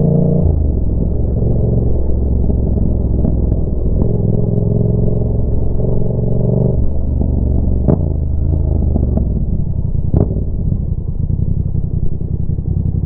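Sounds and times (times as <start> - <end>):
exhaust pops and crackles: 0.0 - 13.0
motorcycle engine idling: 0.6 - 13.0.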